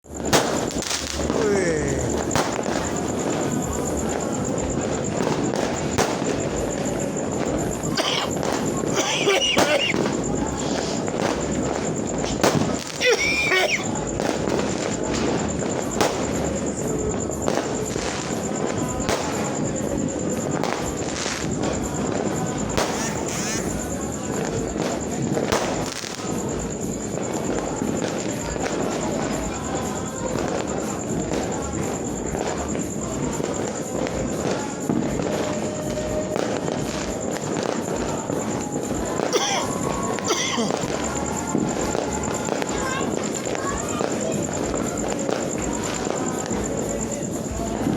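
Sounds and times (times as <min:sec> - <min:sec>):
fireworks crackling and banging: 0:00.0 - 0:47.9.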